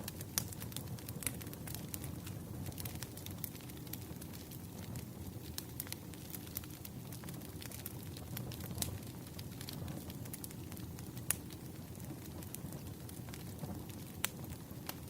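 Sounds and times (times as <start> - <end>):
fire popping and snapping: 0.0 - 15.0
low rumble of burning wood: 0.0 - 15.0.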